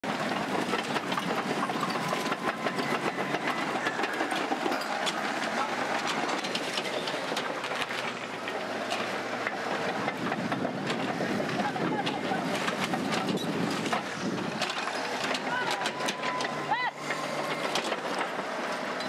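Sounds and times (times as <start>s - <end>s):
bulldozer clanking and rattling: 0.0s - 19.0s.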